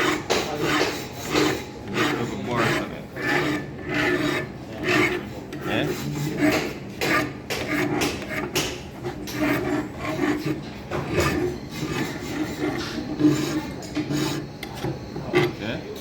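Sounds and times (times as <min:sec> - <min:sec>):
hand file rasping on steel: 0:00.0 - 0:15.8.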